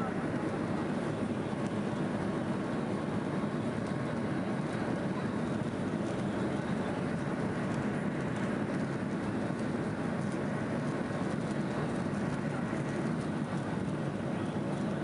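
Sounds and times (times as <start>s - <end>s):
jet engines roaring: 0.0s - 15.0s
wheels rumbling on runway: 0.0s - 15.0s.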